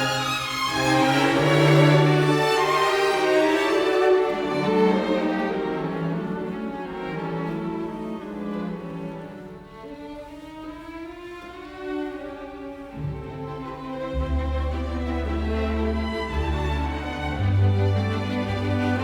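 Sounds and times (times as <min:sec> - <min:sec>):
bowed strings background music: 0:00.0 - 0:19.0.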